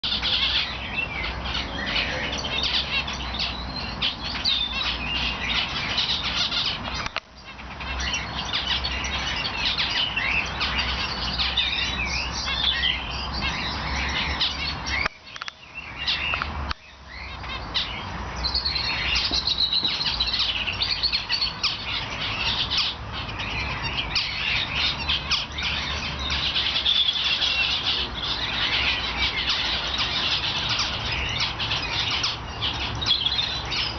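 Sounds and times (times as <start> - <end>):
cage birds chirping: 0.0 - 33.9.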